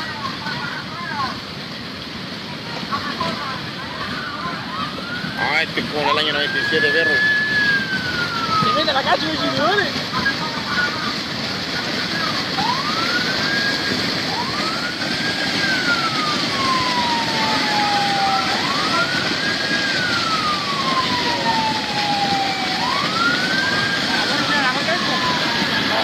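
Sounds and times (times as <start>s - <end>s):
rushing flood water: 0.0s - 26.0s
siren wailing: 3.0s - 26.0s.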